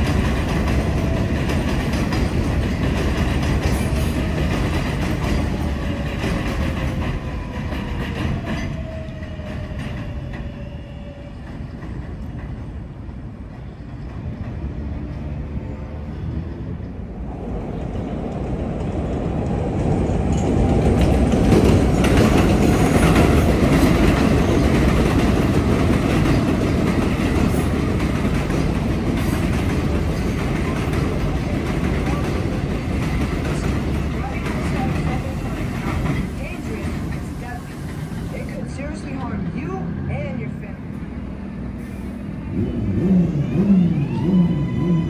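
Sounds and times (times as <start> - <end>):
subway train wheels rumbling: 0.0 - 45.0.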